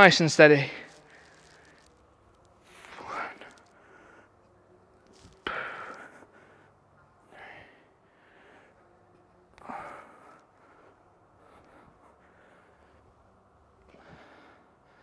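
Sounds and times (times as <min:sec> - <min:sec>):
man breathing heavily: 0:01.1 - 0:01.9, 0:02.6 - 0:04.5, 0:05.2 - 0:15.0.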